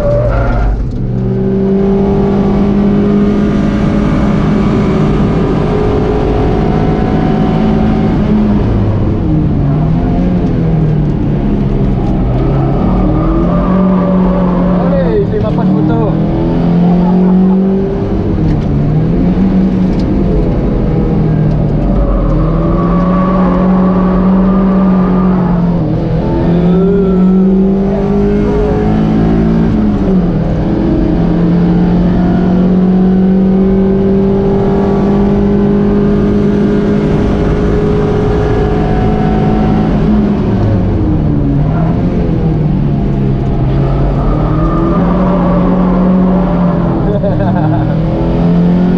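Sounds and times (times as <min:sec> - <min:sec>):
car engine revving high: 0:00.0 - 0:48.9.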